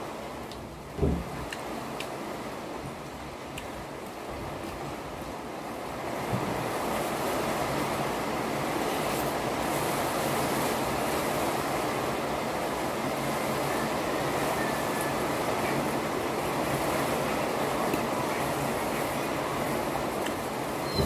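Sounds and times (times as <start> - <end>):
rain: 0.0 - 21.0
storm wind: 0.0 - 21.0.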